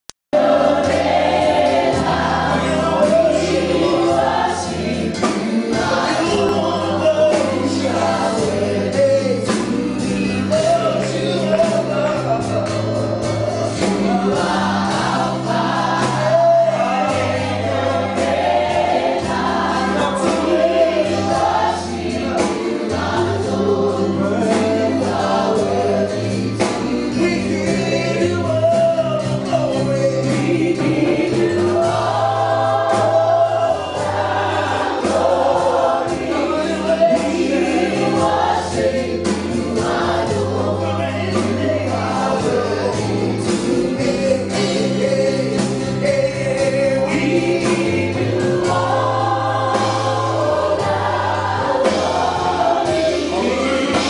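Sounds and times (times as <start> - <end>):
people singing gospel: 0.4 - 54.0.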